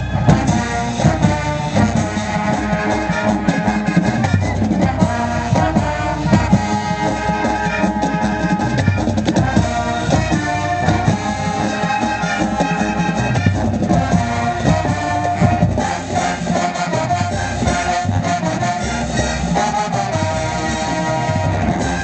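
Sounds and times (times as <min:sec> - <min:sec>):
brass holding notes: 0:00.0 - 0:22.0
steady drum beat: 0:00.0 - 0:22.0.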